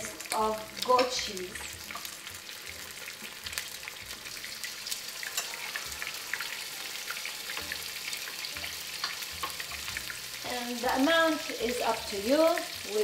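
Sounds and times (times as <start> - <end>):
eggs sizzling in a frying pan: 0.0 - 13.0
oil crackling and popping: 0.0 - 13.0.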